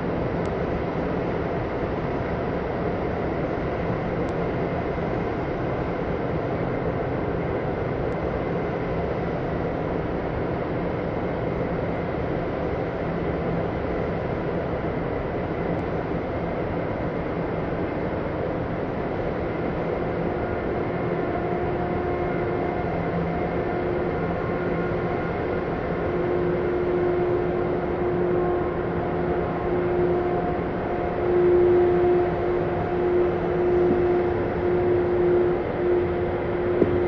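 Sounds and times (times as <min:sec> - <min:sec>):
steady electric hum: 0:00.0 - 0:37.0.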